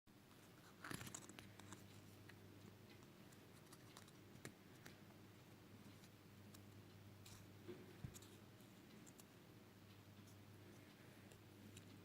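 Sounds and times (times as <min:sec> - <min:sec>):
low steady hum: 0:00.1 - 0:12.0.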